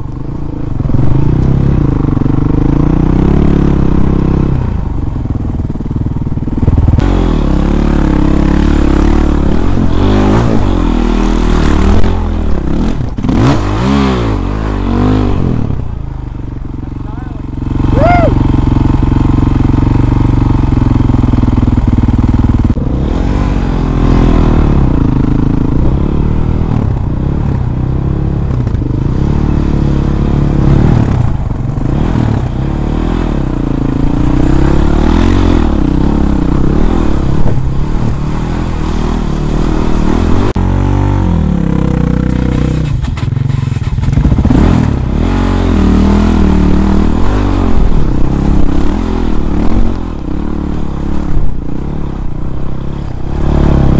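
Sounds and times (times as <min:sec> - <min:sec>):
dirt bike engine revving: 0:00.0 - 0:16.1, 0:16.8 - 0:53.9.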